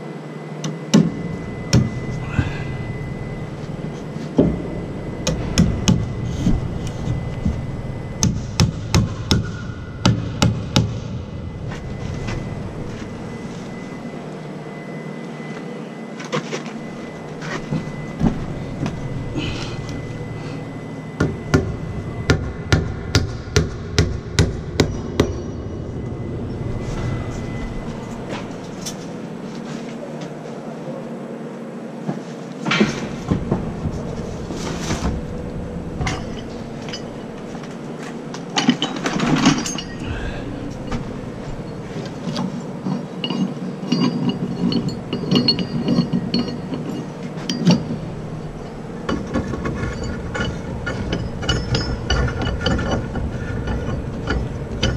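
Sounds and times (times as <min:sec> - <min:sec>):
knocks and clinks of work: 0:00.6 - 0:14.3, 0:16.2 - 0:29.7, 0:32.1 - 0:54.9.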